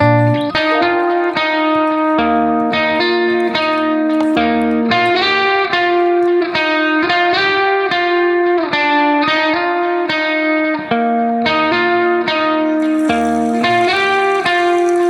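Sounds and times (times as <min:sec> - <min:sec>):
plucked guitar melody: 0:00.0 - 0:15.0.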